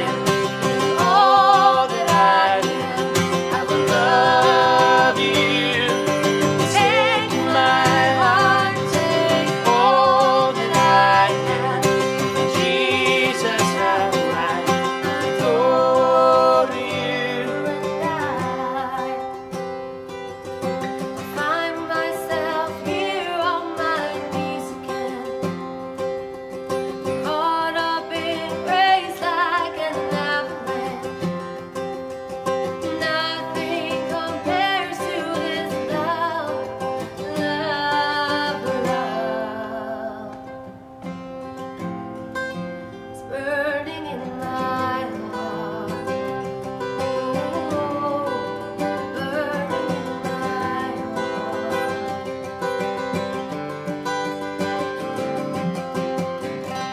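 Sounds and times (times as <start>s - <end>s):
woman singing: 0.0s - 19.6s, 21.2s - 25.9s, 27.0s - 31.8s, 32.4s - 40.8s, 43.1s - 53.2s
acoustic guitar: 0.0s - 56.9s.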